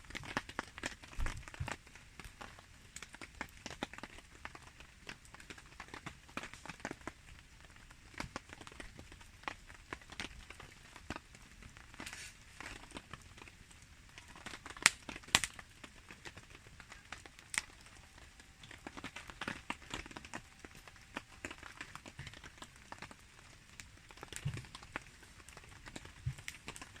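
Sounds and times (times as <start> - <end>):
campfire crackling and popping: 0.0 - 27.0
rain pattering: 0.0 - 27.0.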